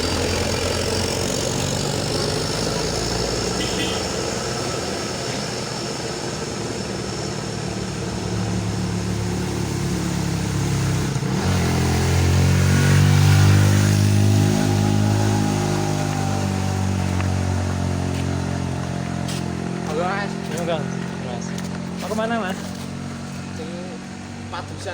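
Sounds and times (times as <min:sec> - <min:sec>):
loud engine passing close: 0:00.0 - 0:24.9
vehicle engines working hard: 0:00.0 - 0:24.9.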